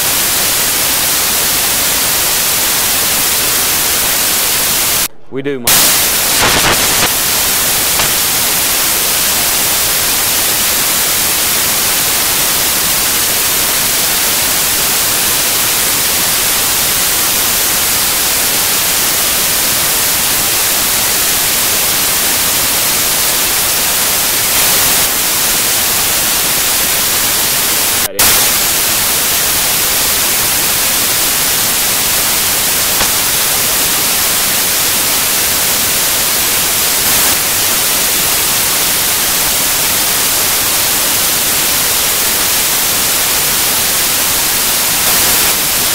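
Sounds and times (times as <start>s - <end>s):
loud static hiss: 0.0s - 45.9s.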